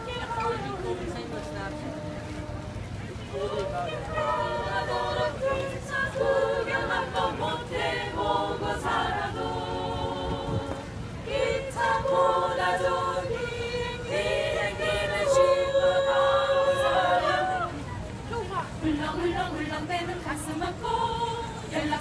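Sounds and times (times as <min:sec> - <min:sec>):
women's choir singing a cappella: 0:00.0 - 0:22.0.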